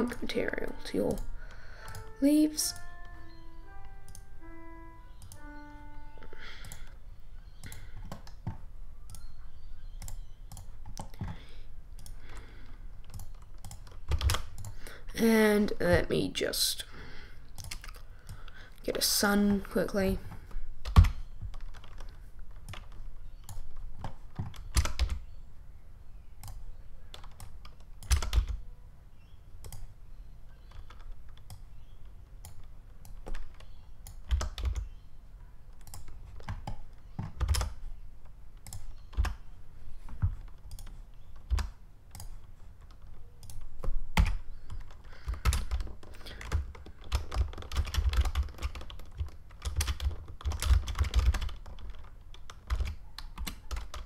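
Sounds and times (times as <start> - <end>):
keyboard keys clicking: 0.0 - 14.9, 17.5 - 19.7, 20.3 - 25.3, 26.4 - 28.6, 29.6 - 29.9, 30.6 - 35.0, 35.7 - 39.5, 40.1 - 54.0.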